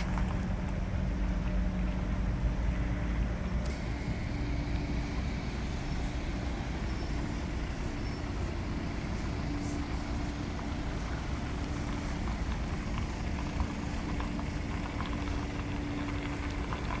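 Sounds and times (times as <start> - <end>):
car engines idling: 0.0 - 17.0
droning hum: 0.0 - 17.0.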